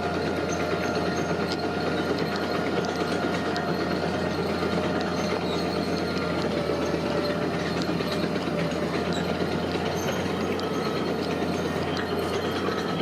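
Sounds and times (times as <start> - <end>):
heavy machinery running: 0.0 - 13.0
metallic clicks and squeaks: 0.1 - 13.0.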